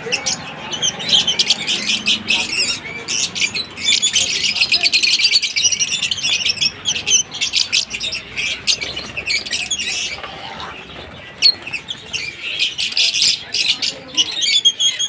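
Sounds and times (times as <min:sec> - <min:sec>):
lovebirds chirping and squawking: 0:00.0 - 0:15.0.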